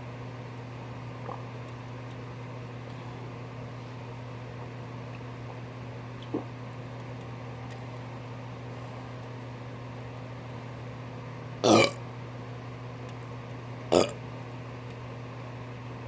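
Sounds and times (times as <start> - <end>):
low appliance hum: 0.0 - 16.0.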